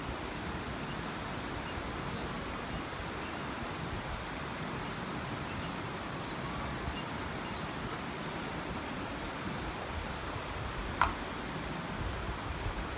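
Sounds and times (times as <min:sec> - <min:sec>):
river rushing over stones: 0:00.0 - 0:12.9.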